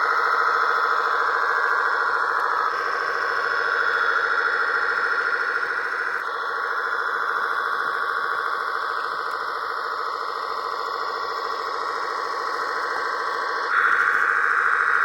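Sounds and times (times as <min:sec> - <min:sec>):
simulated engine idling: 0:00.0 - 0:15.0.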